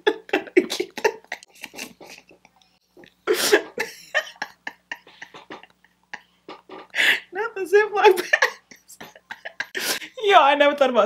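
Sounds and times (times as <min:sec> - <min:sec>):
woman laughing: 0:00.0 - 0:02.5, 0:03.3 - 0:10.1.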